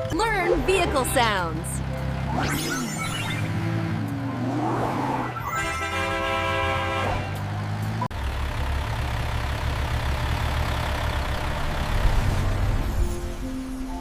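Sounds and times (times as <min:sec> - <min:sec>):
large vehicle engine rumbling: 0:00.0 - 0:14.0.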